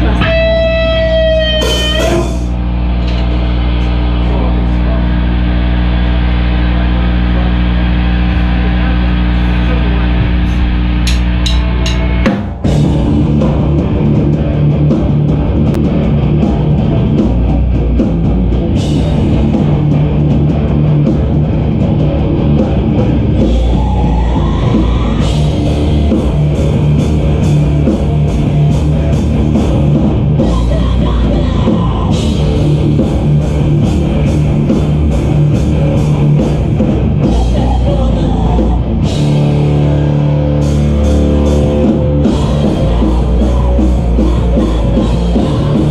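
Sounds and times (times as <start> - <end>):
live rock band playing: 0.0 - 4.2, 5.2 - 45.9.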